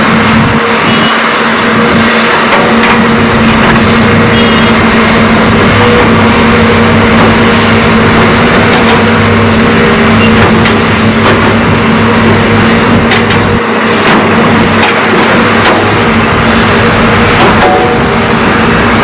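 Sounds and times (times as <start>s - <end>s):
excavator diesel engines running: 0.0s - 19.0s.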